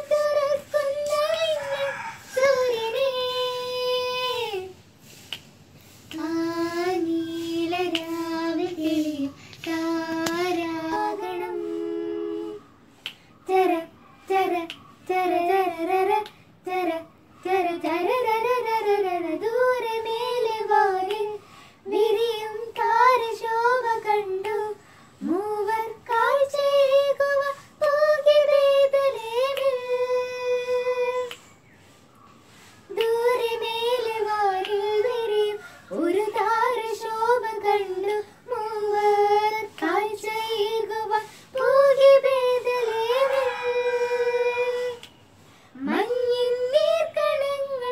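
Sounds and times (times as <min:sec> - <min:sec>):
girls singing without accompaniment: 0:00.0 - 0:31.6, 0:32.3 - 0:47.9.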